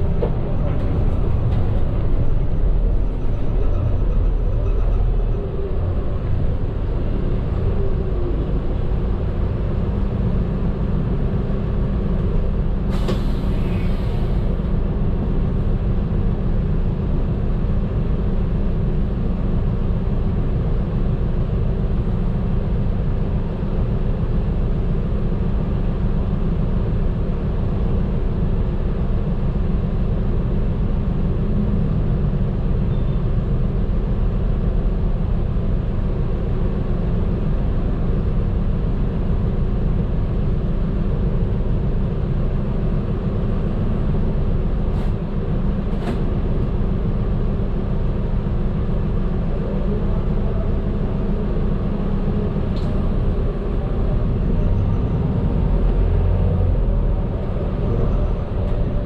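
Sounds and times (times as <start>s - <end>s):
bus engine running: 0.0s - 59.0s
road noise: 0.0s - 59.0s.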